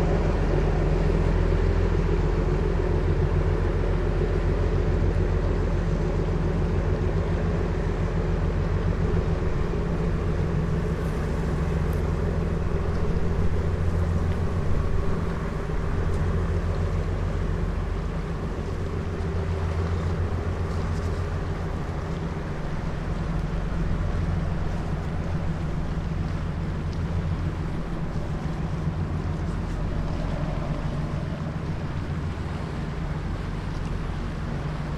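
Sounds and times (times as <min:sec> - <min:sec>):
boat diesel engine chugging: 0:00.0 - 0:34.9.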